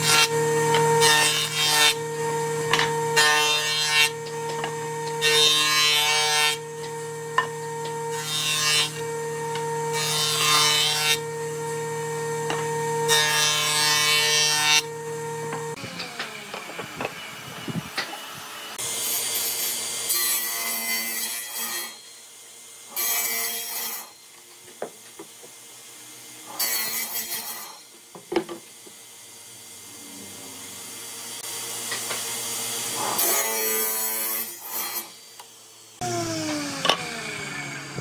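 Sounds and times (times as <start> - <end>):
saw cutting wooden panel: 0.0 - 29.0, 29.6 - 38.0
table saw blade running: 0.0 - 29.0, 29.6 - 38.0.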